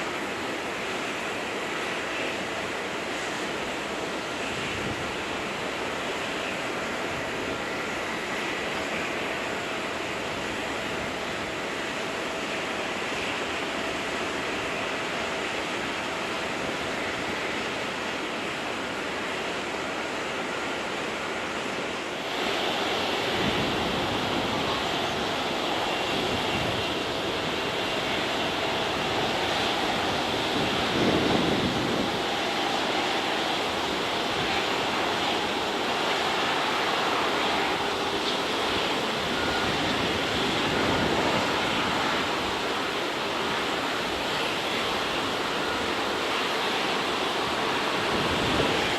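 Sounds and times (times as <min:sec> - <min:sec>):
jet engine noise: 0:00.0 - 0:48.9.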